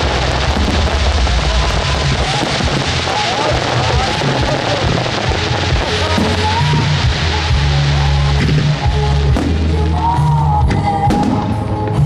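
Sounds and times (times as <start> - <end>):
firework cracks: 0.0 - 12.0
loud rock music with bass line: 0.0 - 12.0.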